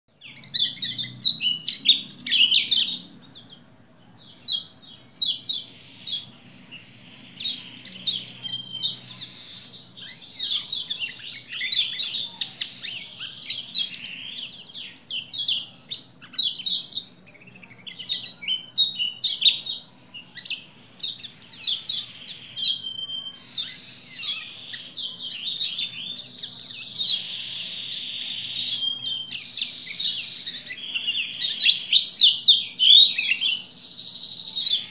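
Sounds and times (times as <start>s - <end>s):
bird twittering song: 0.1s - 34.9s.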